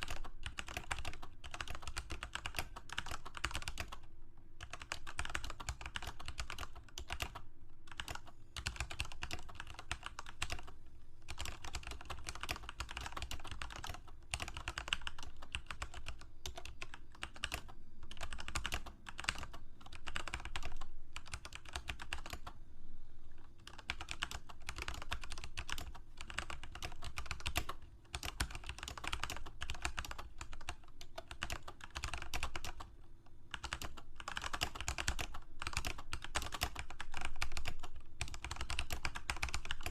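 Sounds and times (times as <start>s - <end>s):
fast typing on a keyboard: 0.0s - 22.5s, 23.6s - 32.9s, 33.5s - 39.9s.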